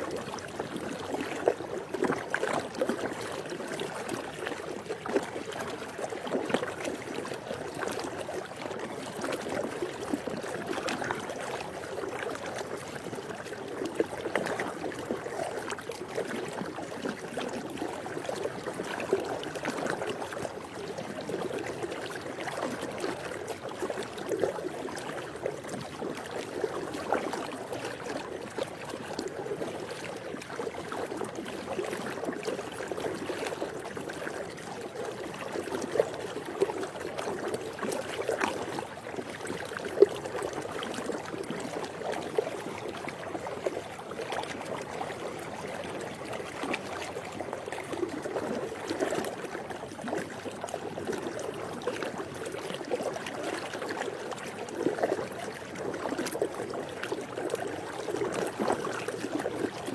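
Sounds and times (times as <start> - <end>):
pool water sloshing: 0.0 - 59.9
water splashes: 0.0 - 59.9.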